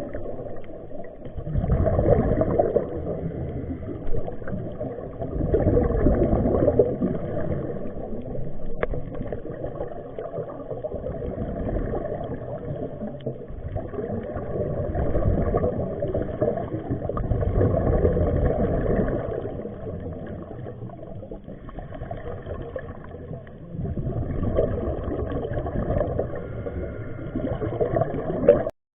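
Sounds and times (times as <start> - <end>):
muffled underwater rumble: 0.0 - 28.7
underwater bubbling: 0.0 - 28.8.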